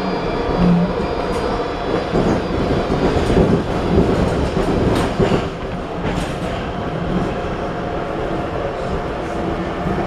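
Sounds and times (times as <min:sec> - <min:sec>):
steel wheels rumbling on rail: 0:00.0 - 0:10.0.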